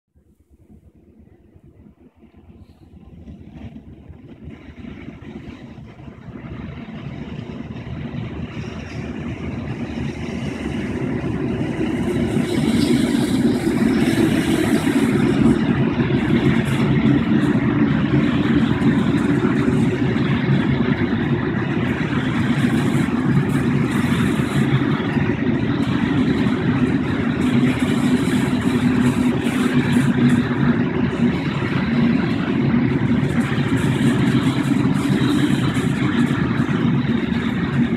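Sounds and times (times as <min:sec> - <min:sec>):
wheels rumbling on rails: 0:00.2 - 0:37.9
locomotive passing: 0:00.6 - 0:37.9.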